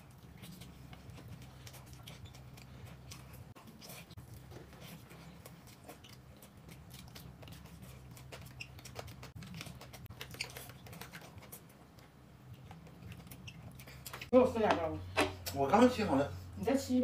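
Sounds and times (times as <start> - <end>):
person chewing food: 0.0 - 14.3.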